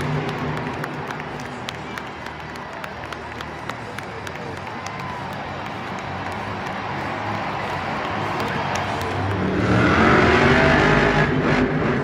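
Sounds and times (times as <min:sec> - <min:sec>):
truck engine at low revs: 0:00.0 - 0:04.6, 0:05.9 - 0:12.0
crowd noise: 0:00.0 - 0:12.0.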